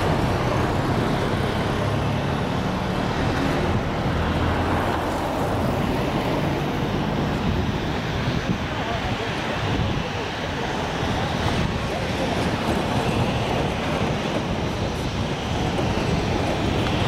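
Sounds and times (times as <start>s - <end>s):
jet engines rumbling at low power: 0.0s - 17.0s.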